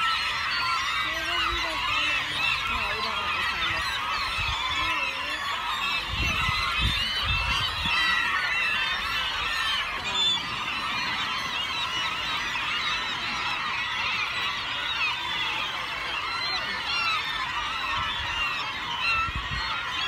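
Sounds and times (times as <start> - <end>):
flock of gulls calling: 0.0 - 20.0.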